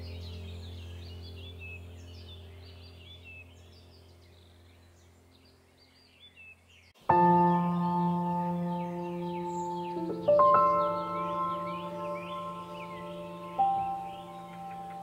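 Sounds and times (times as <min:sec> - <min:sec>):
birds chirping: 0:00.0 - 0:15.0
low ambient drone with tones: 0:00.0 - 0:15.0.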